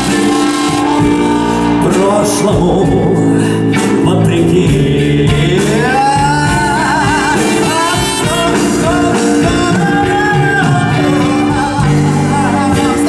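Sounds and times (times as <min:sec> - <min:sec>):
live band playing: 0:00.0 - 0:13.0
man singing with vibrato: 0:00.0 - 0:13.0.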